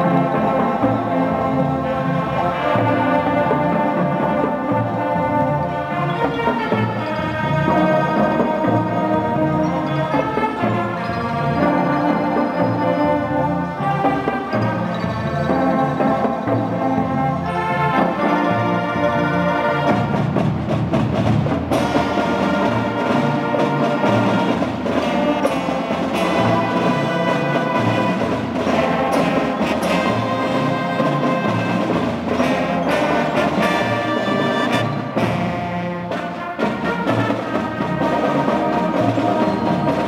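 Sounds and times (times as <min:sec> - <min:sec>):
brass marching band playing: 0:00.0 - 0:40.0
drums and percussion: 0:00.0 - 0:40.0.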